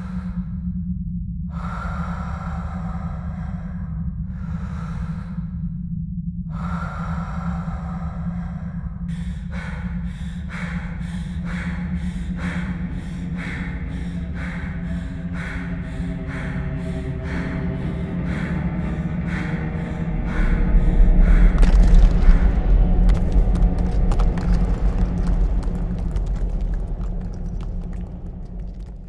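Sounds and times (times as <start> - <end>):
deep drone: 0.0 - 29.0
breath-like noise swells: 1.5 - 5.8, 6.5 - 29.0.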